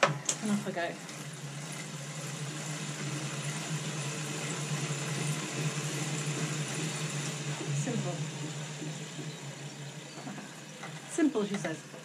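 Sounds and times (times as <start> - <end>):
bike trainer humming: 0.0 - 12.0.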